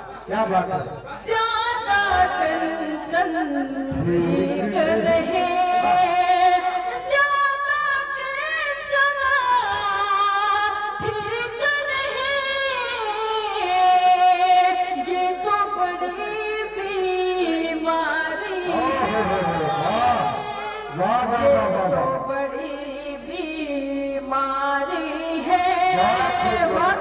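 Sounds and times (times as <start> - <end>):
woman singing into microphone: 1.2 - 20.9, 22.0 - 27.0.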